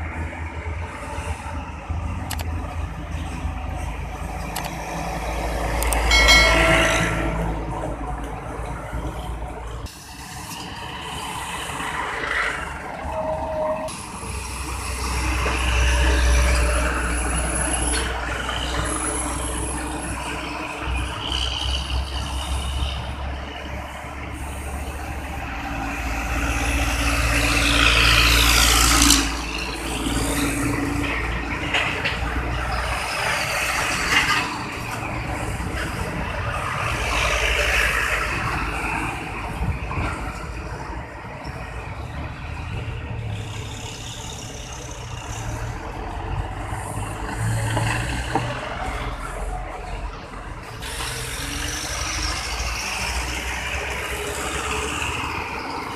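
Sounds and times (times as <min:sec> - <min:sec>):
trucks and traffic passing: 0:00.0 - 0:55.9.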